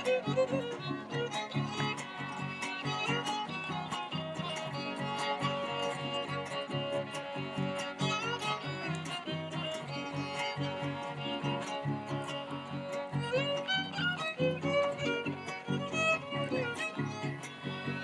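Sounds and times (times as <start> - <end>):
strummed guitars: 0.0 - 18.0
violin sliding melody: 0.0 - 18.0.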